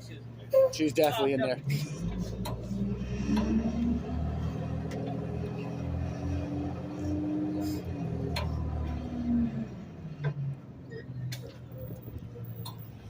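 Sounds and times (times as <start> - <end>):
engine whine: 0.9 - 13.0.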